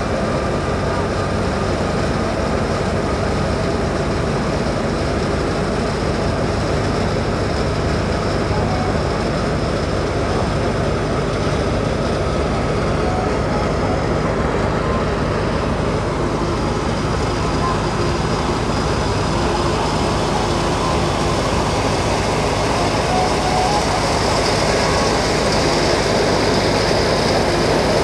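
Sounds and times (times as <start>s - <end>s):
wheat thresher running: 0.0s - 28.0s.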